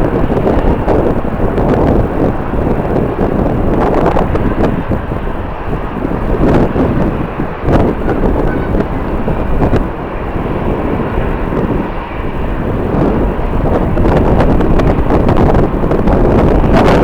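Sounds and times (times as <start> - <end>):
jet engines rushing: 0.0 - 17.0
wind buffeting microphone: 0.0 - 17.0.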